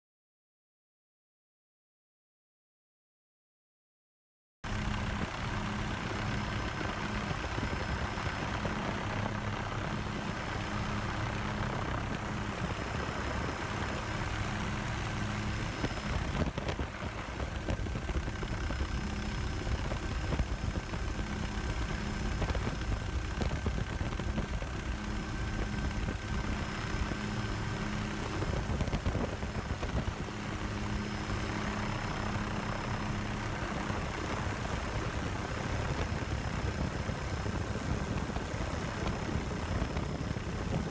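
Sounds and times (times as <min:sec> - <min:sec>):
helicopter engine and rotor hum: 0:04.6 - 0:40.9
thin steady whine: 0:04.7 - 0:40.9.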